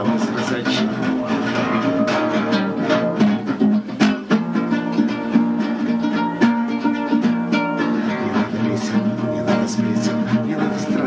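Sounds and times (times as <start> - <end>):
guitar plucked and strummed: 0.0 - 11.0.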